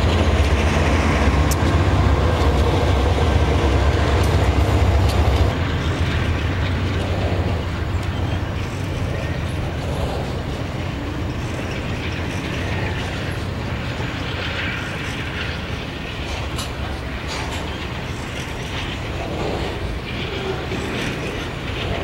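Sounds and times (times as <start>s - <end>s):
locomotive engine rumble: 0.0s - 22.0s
wheels rolling on rails: 0.0s - 22.0s.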